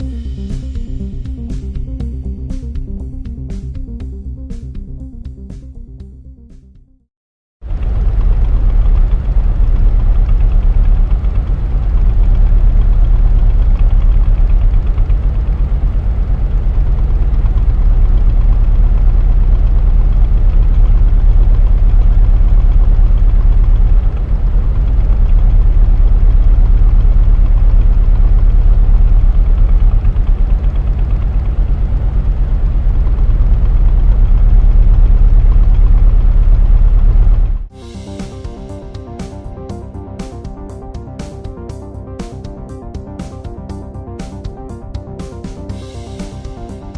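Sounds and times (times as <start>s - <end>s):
engine idling with deep rumble: 7.6s - 46.9s.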